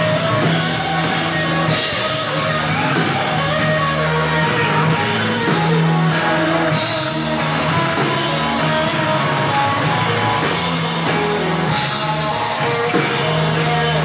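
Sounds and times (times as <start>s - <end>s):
drum kit with cymbal hits: 0.0s - 14.0s
electric bass: 0.0s - 14.0s
electric guitar: 0.0s - 14.0s.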